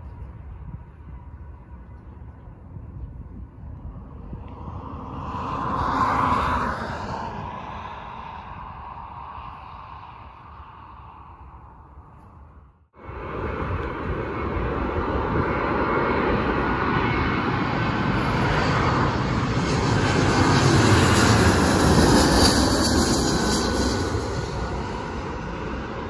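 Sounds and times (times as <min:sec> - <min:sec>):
distant aircraft on runway: 0:00.0 - 0:26.0
jet engines rumble and hiss: 0:03.8 - 0:12.3, 0:13.0 - 0:26.0.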